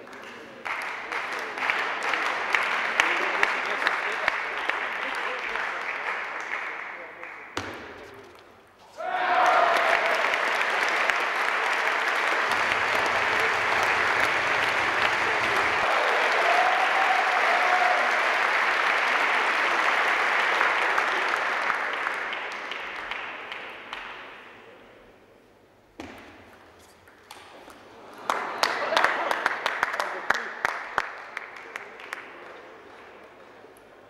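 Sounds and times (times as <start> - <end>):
audience applauding: 0.0 - 7.5, 9.0 - 24.1, 28.0 - 33.7.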